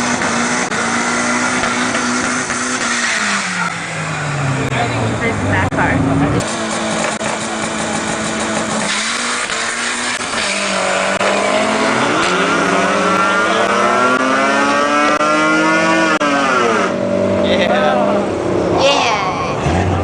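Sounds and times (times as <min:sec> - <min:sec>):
vehicle engine accelerating: 0:00.0 - 0:18.8, 0:19.5 - 0:20.0.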